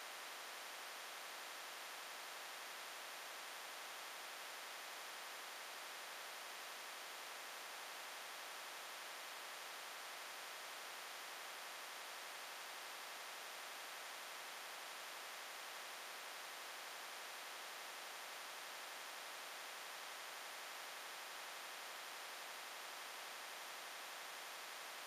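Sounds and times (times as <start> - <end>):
static hiss: 0.0 - 25.0.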